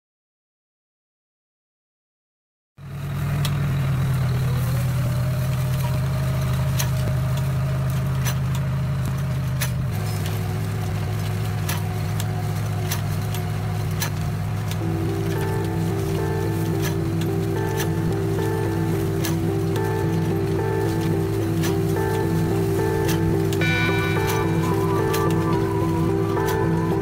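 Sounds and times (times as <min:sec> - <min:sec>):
tractor engine running: 0:02.8 - 0:27.0.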